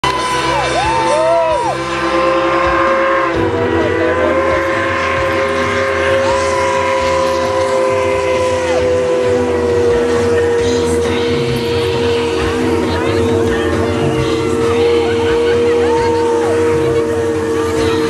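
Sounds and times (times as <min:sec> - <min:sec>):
steam locomotive whistle: 0:00.0 - 0:18.0.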